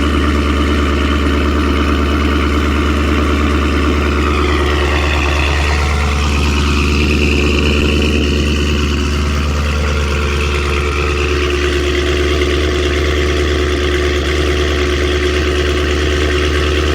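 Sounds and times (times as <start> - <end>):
car exhaust idling: 0.0 - 16.9.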